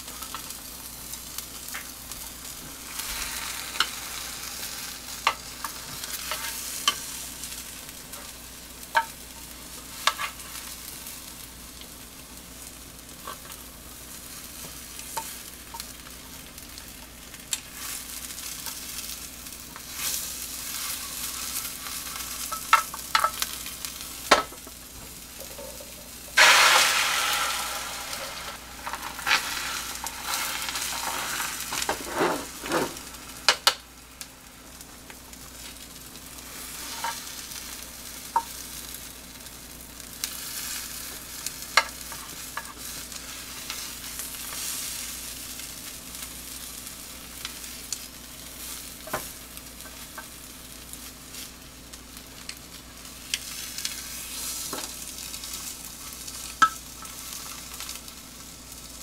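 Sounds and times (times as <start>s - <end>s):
egg sizzling in a pan: 0.0s - 59.0s.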